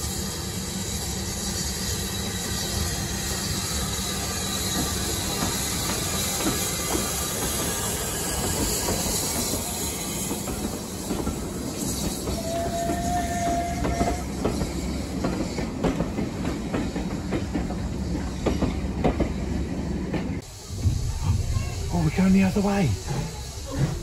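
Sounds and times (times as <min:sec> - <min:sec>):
steam hiss: 0:00.0 - 0:24.0.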